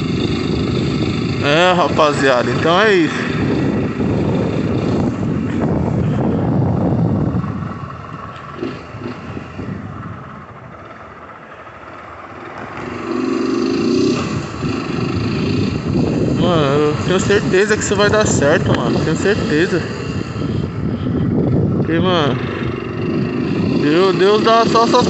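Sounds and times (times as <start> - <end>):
motorcycle engine rumble: 0.0 - 25.0
traffic noise: 0.0 - 25.0.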